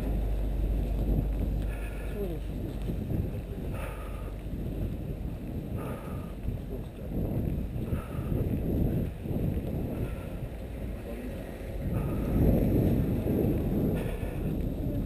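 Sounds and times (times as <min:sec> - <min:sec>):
footsteps on packed snow: 0:00.0 - 0:15.0
wind rumble on microphone: 0:00.0 - 0:15.0.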